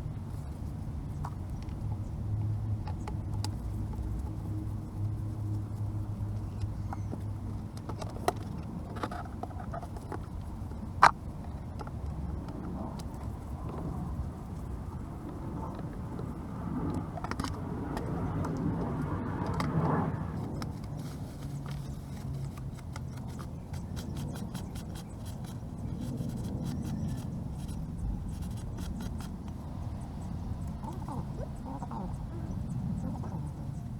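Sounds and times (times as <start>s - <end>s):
scooter engine humming: 0.0s - 33.9s.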